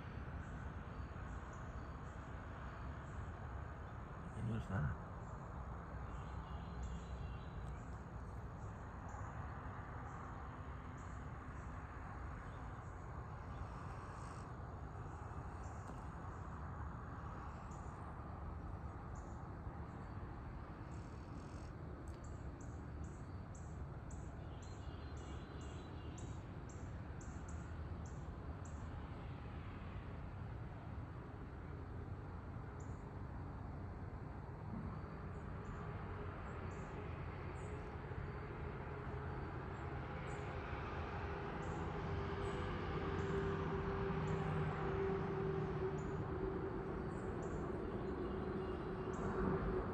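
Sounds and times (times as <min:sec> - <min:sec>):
distant vehicle drone: 0:00.0 - 0:24.4, 0:25.1 - 0:49.9.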